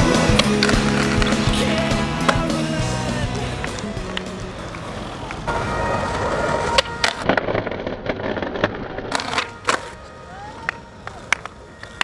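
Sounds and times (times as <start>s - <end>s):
skateboard clacking on ground: 0.0s - 2.7s, 3.4s - 12.0s
skateboard wheels rolling: 0.0s - 12.0s.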